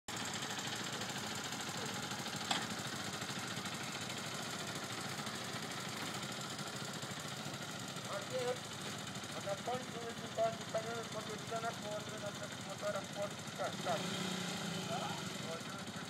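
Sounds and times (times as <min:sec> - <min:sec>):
motorcycles idling: 0:00.1 - 0:16.0.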